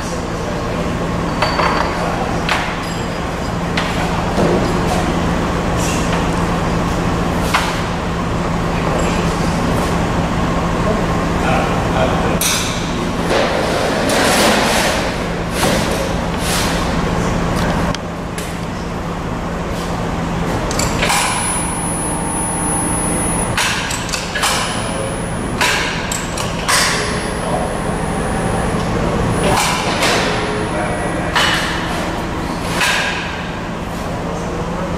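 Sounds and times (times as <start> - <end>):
machine hum: 3.1 - 34.9.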